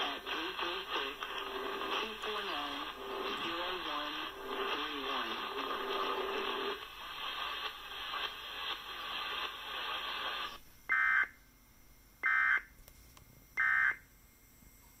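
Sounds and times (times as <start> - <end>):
hissy broadcast audio: 0.0 - 15.0.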